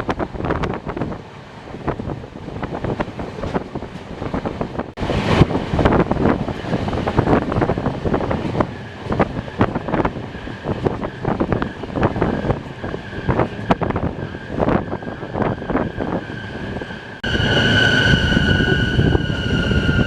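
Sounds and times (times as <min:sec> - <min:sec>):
moving train running noise: 0:00.0 - 0:20.0
wind buffeting microphone: 0:00.0 - 0:20.0.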